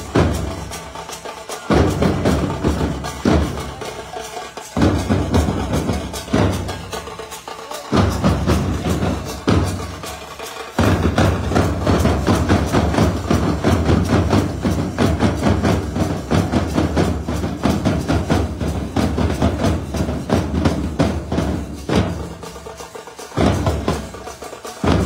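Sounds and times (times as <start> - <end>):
barrel drums beaten in fast rhythm: 0.0 - 25.0.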